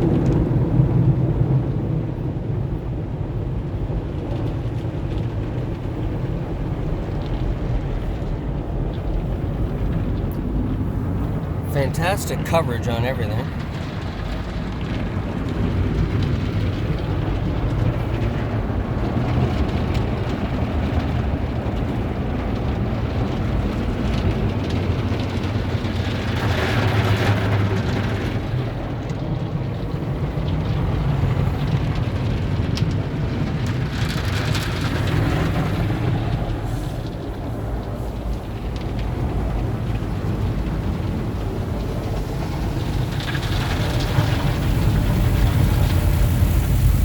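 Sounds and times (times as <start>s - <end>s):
car wash equipment rumbling and hissing: 0.0s - 47.0s.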